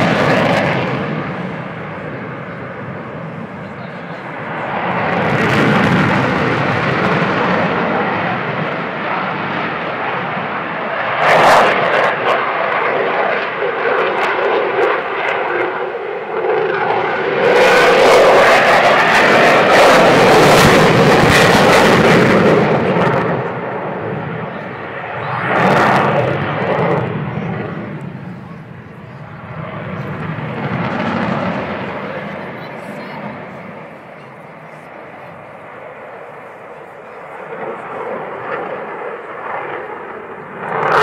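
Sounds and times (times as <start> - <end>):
jet engines roaring: 0.0 - 41.0.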